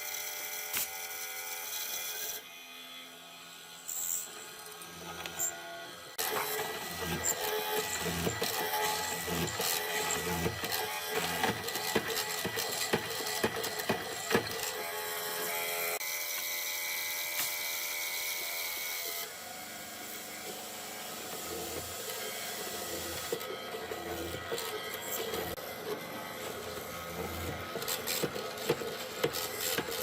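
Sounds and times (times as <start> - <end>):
power tool whining on wood: 0.0 - 30.0.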